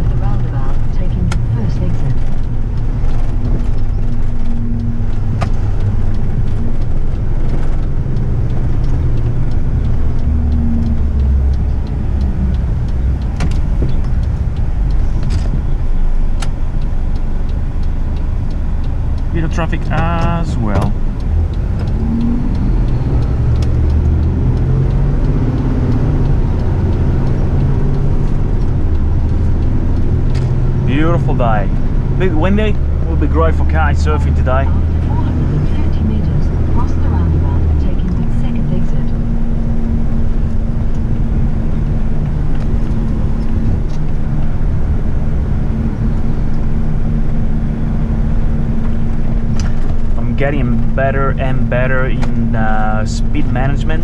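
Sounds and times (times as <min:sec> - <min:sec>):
road noise: 0:00.0 - 0:54.0
truck diesel engine droning: 0:00.0 - 0:54.0.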